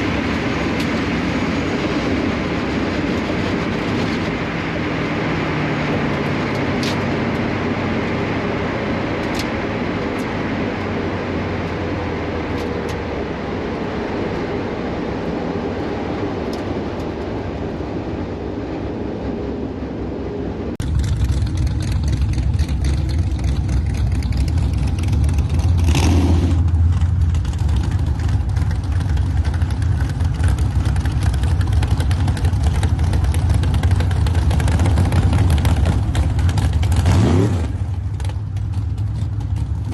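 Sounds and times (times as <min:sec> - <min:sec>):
car engine running: 0:00.0 - 0:39.9
deep engine drone: 0:00.0 - 0:39.9.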